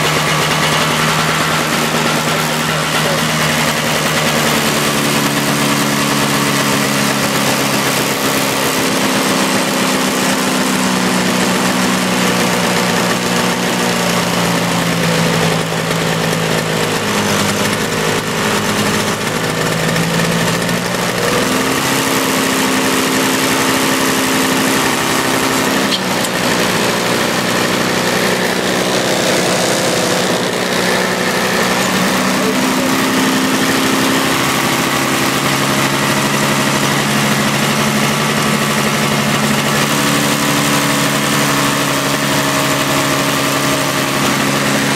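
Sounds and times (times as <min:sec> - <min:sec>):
small two-stroke engine running: 0:00.0 - 0:44.9.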